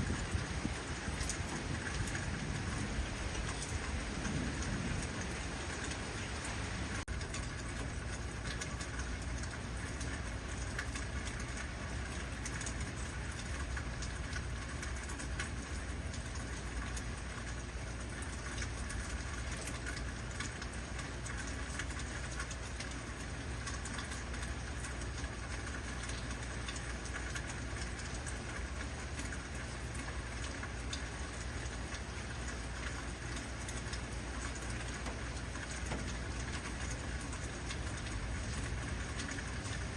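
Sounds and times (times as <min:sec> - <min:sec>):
heavy rain falling: 0:00.0 - 0:39.9
low steady rumble: 0:00.0 - 0:39.9.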